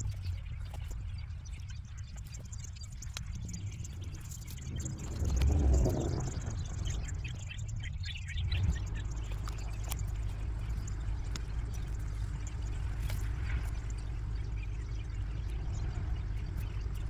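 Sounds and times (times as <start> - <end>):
steady low rumble: 0.0 - 17.0
faint clicks: 2.1 - 7.6, 8.5 - 17.0.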